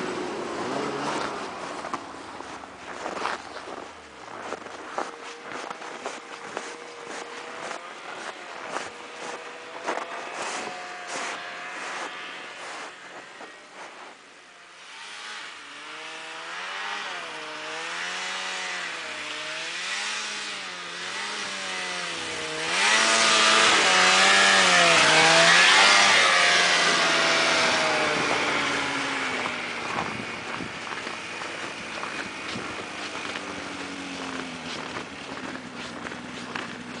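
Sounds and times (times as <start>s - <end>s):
snowmobile engine revving: 0.0s - 37.0s.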